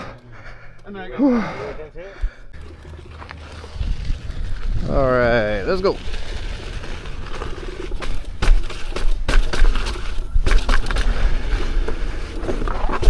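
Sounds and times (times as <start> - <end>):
wind rumbling on microphone: 2.1 - 13.0
unicycle knocks and rattles: 2.2 - 13.0.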